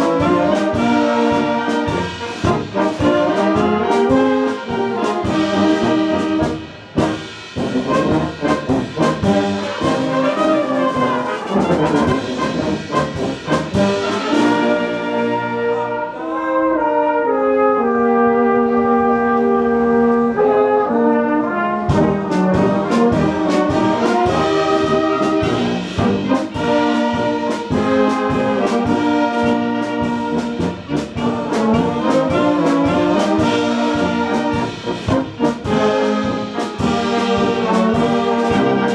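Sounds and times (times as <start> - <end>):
steady drum beat: 0.0 - 15.4, 21.9 - 38.9
brass band playing: 0.0 - 38.9.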